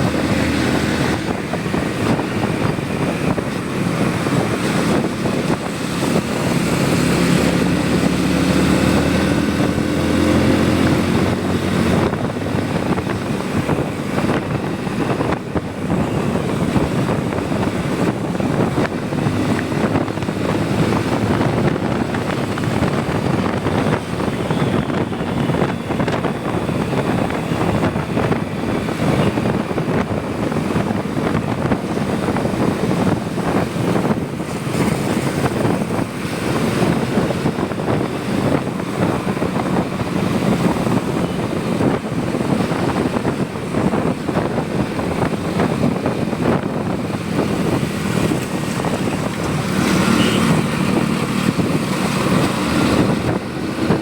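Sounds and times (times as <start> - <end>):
motorcycle engine hum: 0.0 - 54.0
wind rushing across microphone: 0.0 - 54.0.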